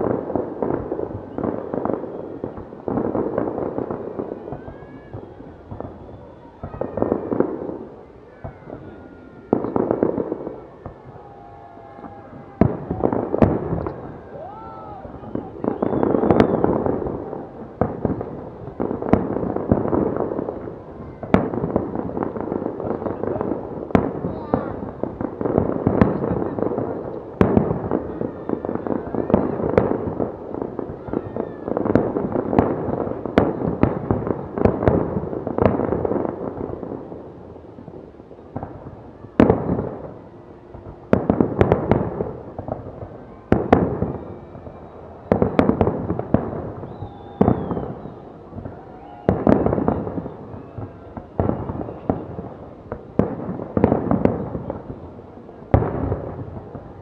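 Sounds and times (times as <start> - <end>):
firework bursts and crackle: 0.0 - 57.0.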